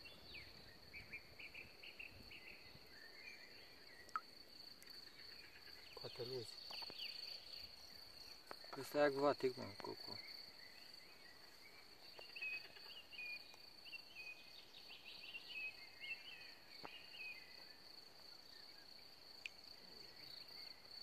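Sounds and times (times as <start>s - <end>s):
bird chirping: 0.0s - 17.8s
high insect trill: 0.4s - 21.0s.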